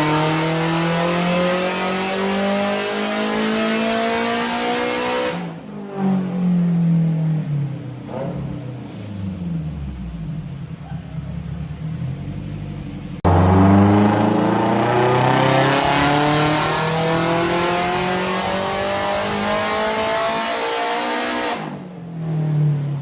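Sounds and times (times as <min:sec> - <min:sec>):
turbocharged car engine revving: 0:00.0 - 0:07.2, 0:08.0 - 0:23.0.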